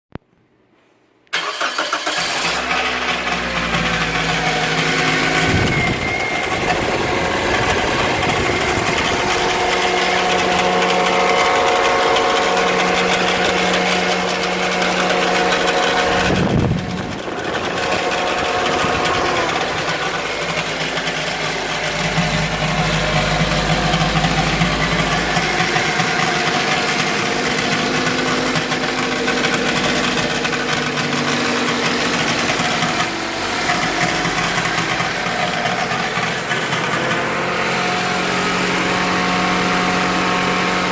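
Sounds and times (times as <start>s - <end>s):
car engine idling: 1.4s - 40.9s
engine rattle: 1.4s - 40.9s.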